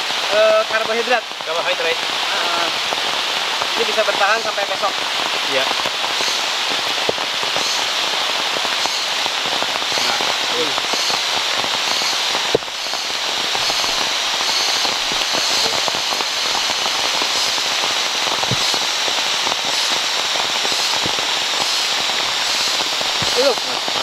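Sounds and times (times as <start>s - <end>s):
heavy rain on leaves: 0.0s - 24.0s.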